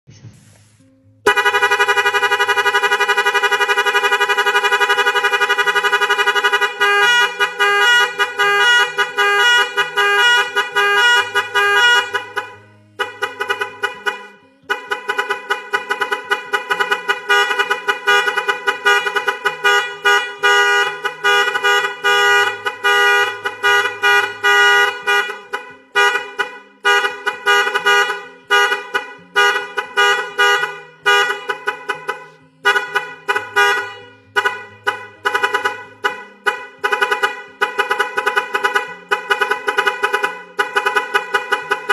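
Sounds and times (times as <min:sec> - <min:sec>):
car horn honks: 0:00.8 - 0:41.9.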